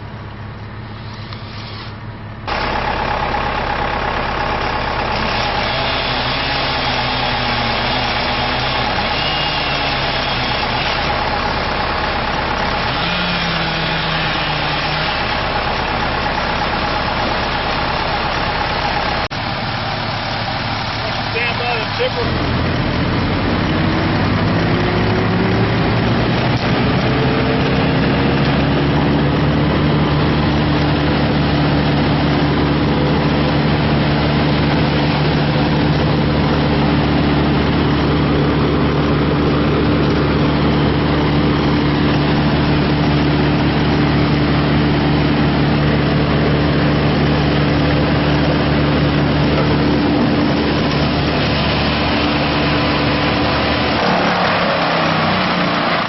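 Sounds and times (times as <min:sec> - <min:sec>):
large engine revving: 0:00.0 - 0:56.0.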